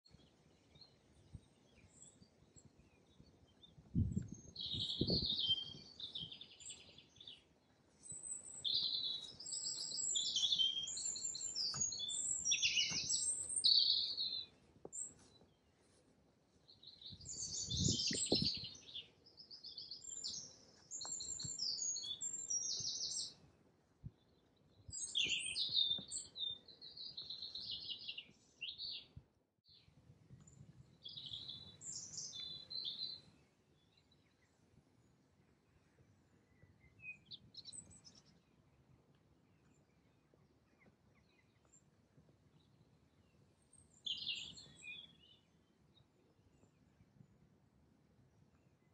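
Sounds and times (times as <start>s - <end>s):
songbirds singing: 0.0s - 15.9s, 16.6s - 47.4s.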